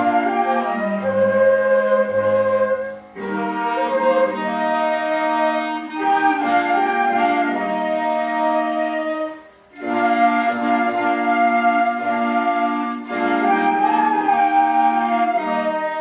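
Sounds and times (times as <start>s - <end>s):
ensemble playing slow hymn: 0.0s - 16.0s.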